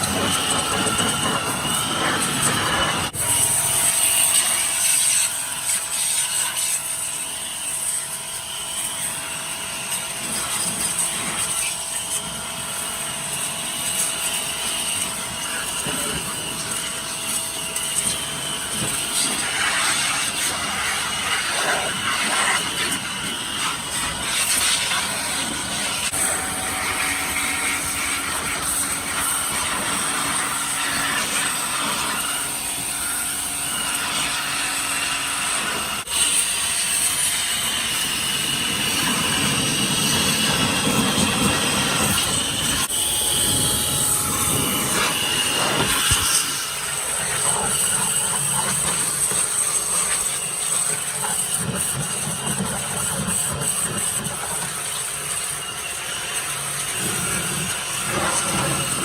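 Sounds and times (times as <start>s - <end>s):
power tool grinding metal: 0.0s - 59.0s.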